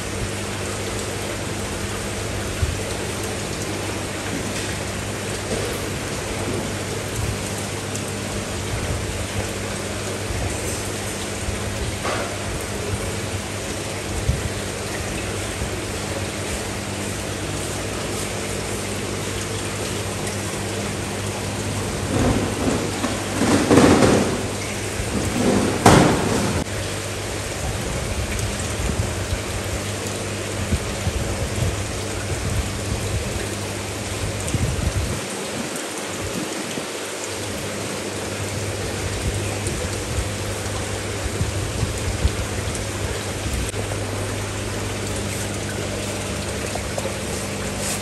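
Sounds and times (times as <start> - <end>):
falling water splashing: 0.0 - 48.0
rushing splashes: 0.0 - 48.0.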